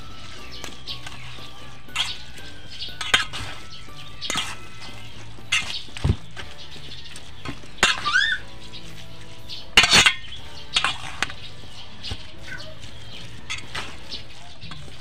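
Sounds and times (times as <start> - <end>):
utensils scraping a steel bowl: 0.0 - 15.0.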